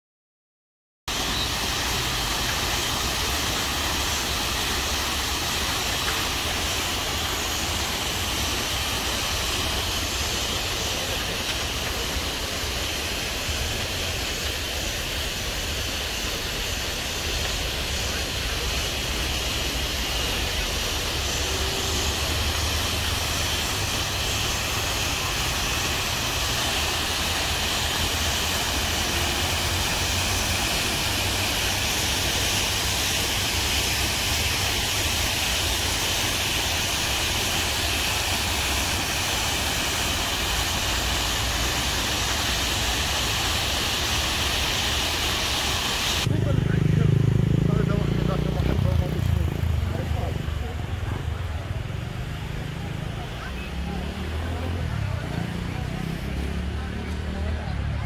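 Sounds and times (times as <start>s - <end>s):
fountain splashing: 1.1s - 58.0s.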